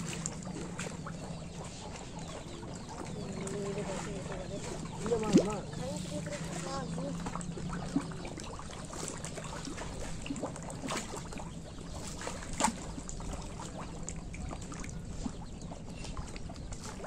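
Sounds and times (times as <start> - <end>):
pond water trickling and splashing: 0.0 - 17.0.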